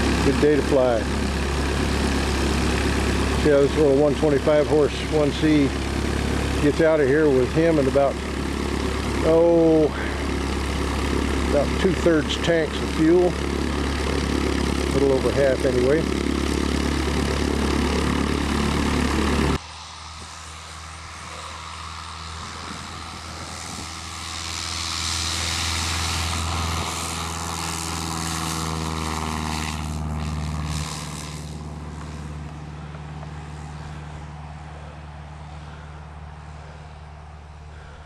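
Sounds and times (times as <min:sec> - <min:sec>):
light aircraft engine passing: 0:00.0 - 0:38.0
steady low hum: 0:00.0 - 0:38.0.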